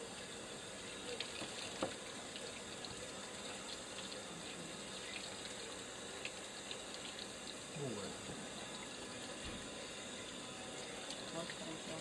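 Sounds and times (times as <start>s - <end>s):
tap water running: 0.0s - 12.0s.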